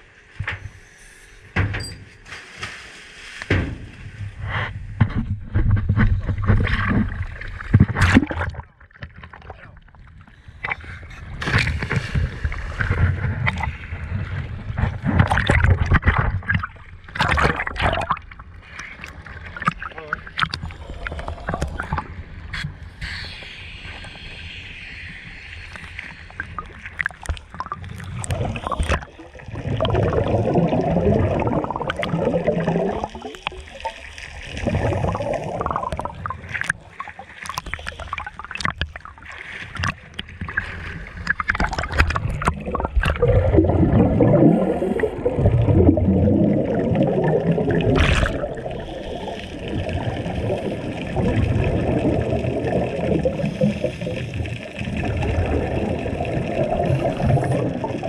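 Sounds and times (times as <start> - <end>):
sea water sloshing and gurgling: 0.0 - 58.0.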